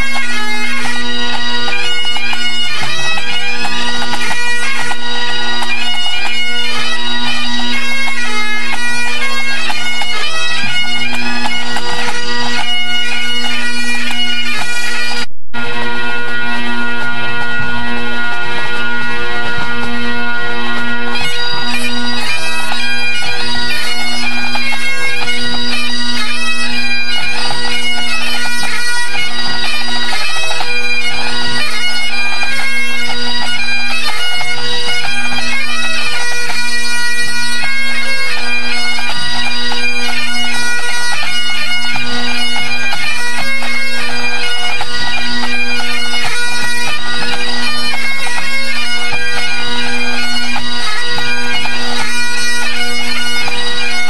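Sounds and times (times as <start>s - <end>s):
bagpipe chanter melody: 0.0s - 54.0s
bagpipe drone: 0.0s - 54.0s.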